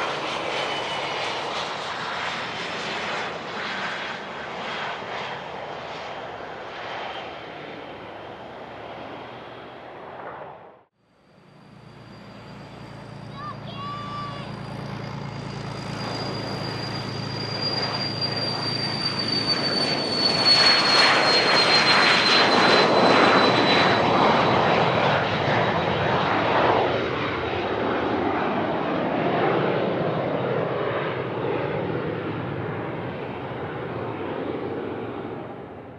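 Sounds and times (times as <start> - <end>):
jet engines passing by: 0.0 - 35.9.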